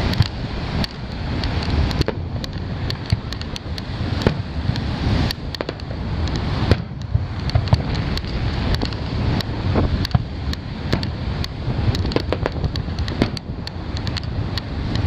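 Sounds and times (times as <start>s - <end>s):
fireworks bangs: 0.0s - 14.2s
fireworks crackles: 0.0s - 15.0s
steady low rumble: 0.0s - 15.0s.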